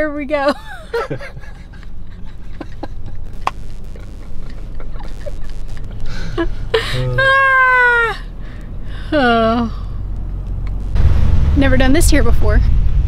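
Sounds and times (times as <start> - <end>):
vehicle cab hum: 0.0 - 13.0.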